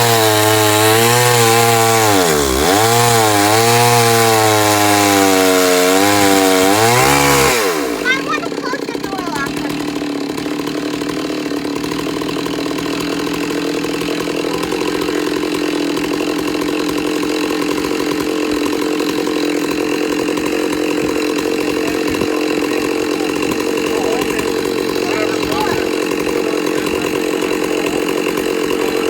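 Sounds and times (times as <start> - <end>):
chainsaw ripping a log: 0.0 - 29.0.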